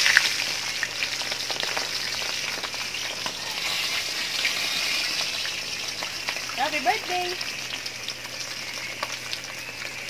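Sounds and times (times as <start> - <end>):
fish frying in hot oil: 0.0 - 10.0.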